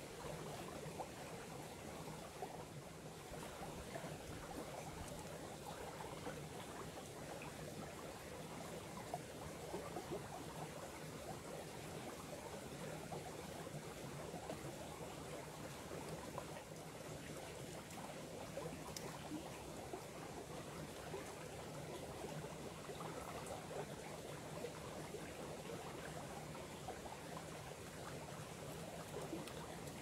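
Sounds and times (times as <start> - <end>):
small stream flowing: 0.0 - 30.0.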